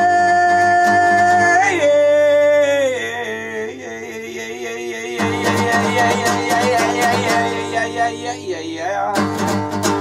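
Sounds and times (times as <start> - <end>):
man singing a long note: 0.0 - 9.2
acoustic guitar strumming: 0.0 - 10.0.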